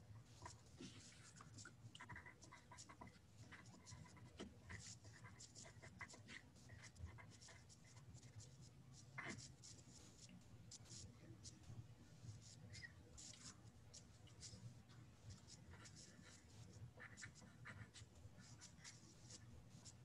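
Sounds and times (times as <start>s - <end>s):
low steady hum: 0.0s - 20.0s
pen scratching on paper: 0.3s - 11.6s, 12.3s - 14.6s, 15.3s - 20.0s.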